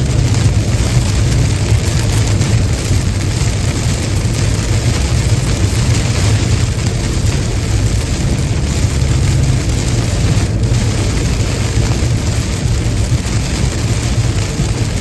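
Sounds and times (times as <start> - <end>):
car low rumble: 0.0 - 15.0
rain: 0.0 - 15.0
tyres hissing on wet road: 0.0 - 15.0.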